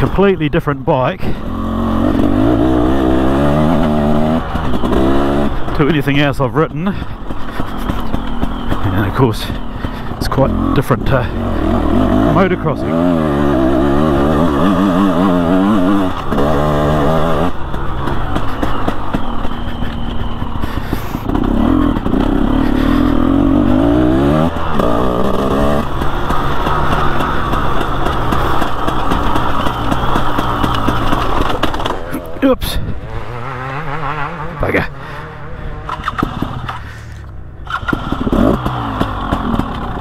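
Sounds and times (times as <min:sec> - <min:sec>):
two-stroke engine revving: 0:00.0 - 0:40.0.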